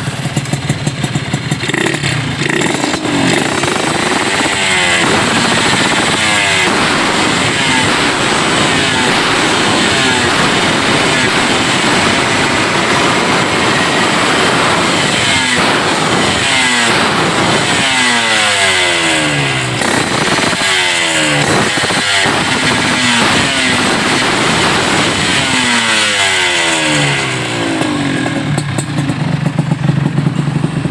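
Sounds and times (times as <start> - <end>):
two-stroke motorcycle engine revving: 0.0 - 30.9.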